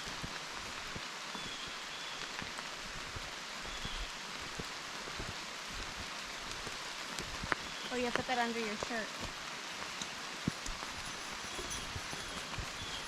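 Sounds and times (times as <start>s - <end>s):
raindrops ticking: 0.0s - 13.0s
steady rain falling: 0.0s - 13.0s.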